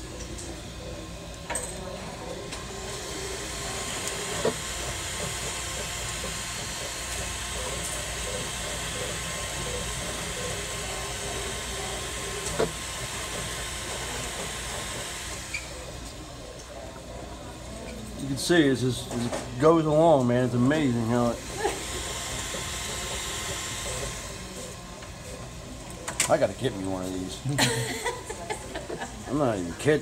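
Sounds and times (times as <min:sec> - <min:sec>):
print head motors moving: 0:00.0 - 0:30.0
printer fans hissing: 0:00.0 - 0:30.0.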